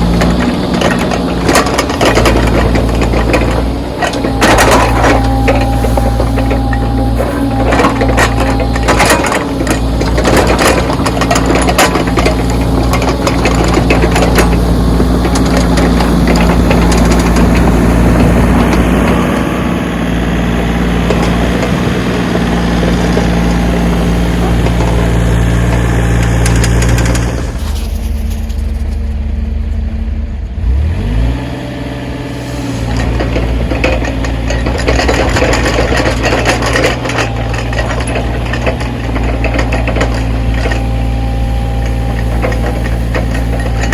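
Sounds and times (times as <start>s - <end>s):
clanking and scraping: 0.0s - 19.6s, 20.8s - 30.0s, 32.3s - 43.9s
backhoe engine running: 0.0s - 43.9s.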